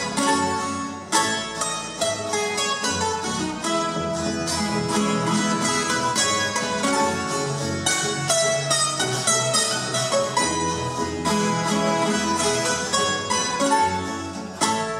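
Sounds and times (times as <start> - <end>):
double bass line: 0.0 - 14.9
plucked strings in quick notes: 0.0 - 14.9.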